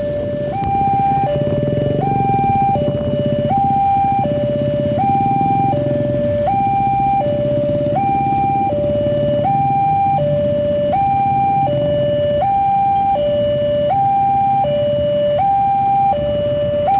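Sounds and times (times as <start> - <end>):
level crossing two-tone alarm: 0.0 - 16.9.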